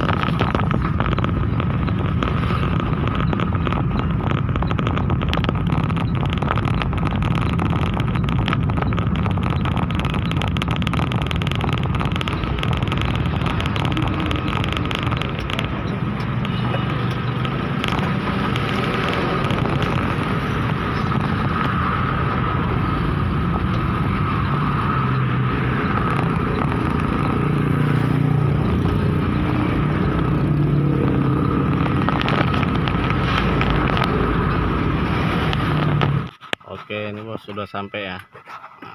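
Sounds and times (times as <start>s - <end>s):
pickup truck engine and road noise: 0.0s - 37.5s.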